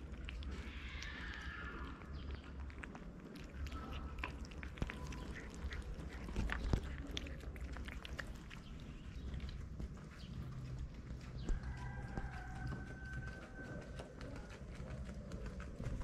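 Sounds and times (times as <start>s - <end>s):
cats chewing wet food: 0.0s - 16.0s.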